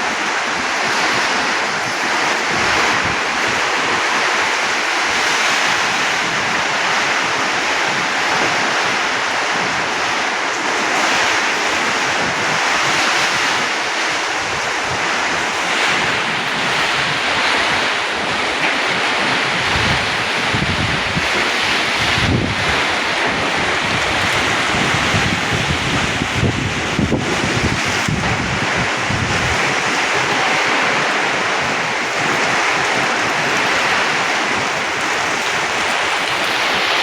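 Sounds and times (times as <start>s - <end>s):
heavy rain: 0.0s - 37.0s
wind buffeting microphone: 0.0s - 37.0s.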